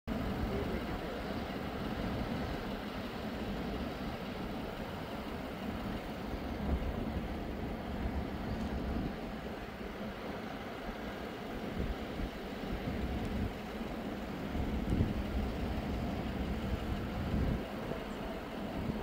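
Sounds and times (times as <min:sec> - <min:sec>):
tractor diesel engine running: 0:00.1 - 0:19.0.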